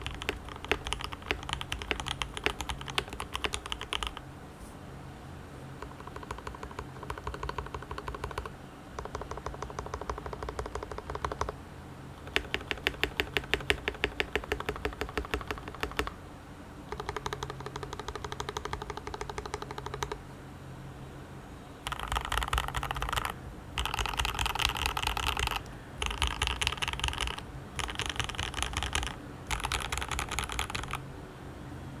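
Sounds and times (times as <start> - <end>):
mechanical keyboard typing: 0.0 - 4.2, 5.8 - 11.6, 12.2 - 16.2, 16.9 - 20.2, 21.8 - 31.0.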